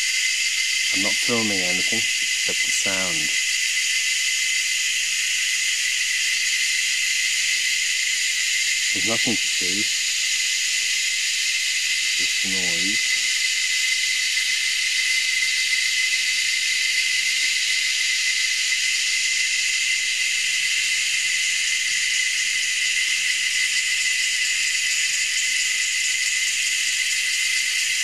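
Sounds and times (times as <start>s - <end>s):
cicadas buzzing: 0.0s - 28.0s.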